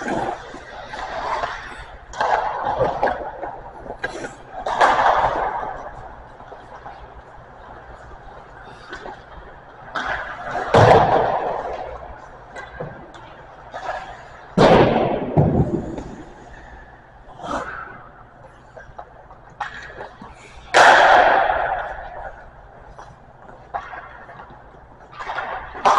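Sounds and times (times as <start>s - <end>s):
hockey pucks striking: 0.0s - 7.0s, 9.9s - 18.1s, 18.7s - 25.9s.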